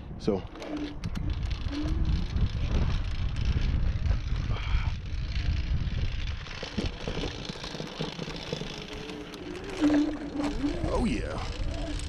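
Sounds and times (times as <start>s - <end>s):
wind on microphone: 0.0s - 12.0s
scooter rumbling over grass: 0.5s - 12.0s
sharp rattling clicks: 0.5s - 12.0s.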